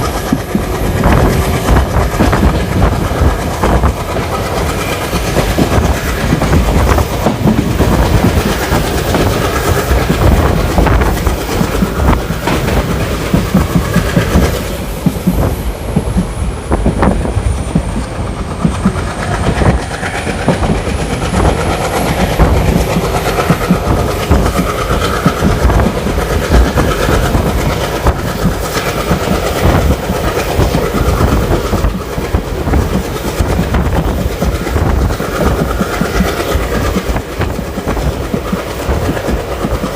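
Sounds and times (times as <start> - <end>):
train wheel and rail rumble: 0.0 - 39.9
wheels clacking over rail joints: 0.0 - 39.9.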